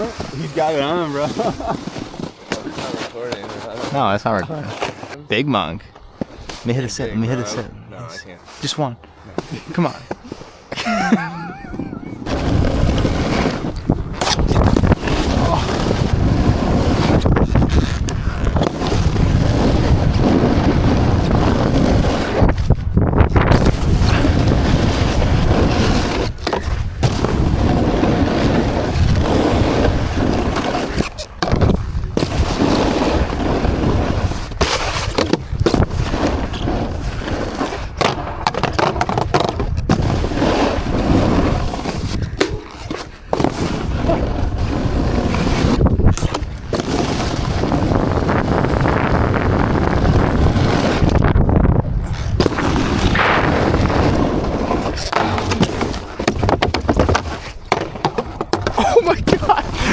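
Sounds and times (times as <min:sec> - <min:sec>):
skis scraping on snow: 0:00.0 - 0:05.3, 0:06.2 - 0:59.9
wind rush on microphone: 0:10.8 - 0:59.9.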